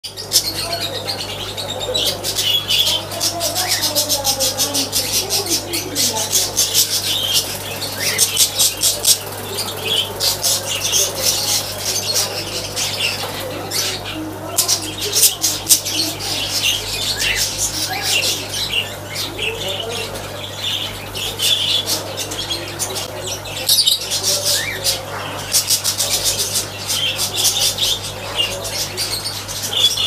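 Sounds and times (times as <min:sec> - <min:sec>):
small birds chirping: 0:00.0 - 0:30.0
aquarium air pump hum: 0:00.1 - 0:30.0.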